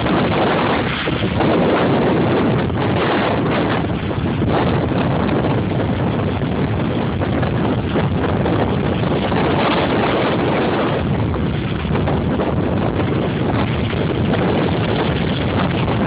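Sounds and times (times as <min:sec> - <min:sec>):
heavy surf rushing: 0:00.0 - 0:16.0
wind buffeting microphone: 0:00.0 - 0:16.0.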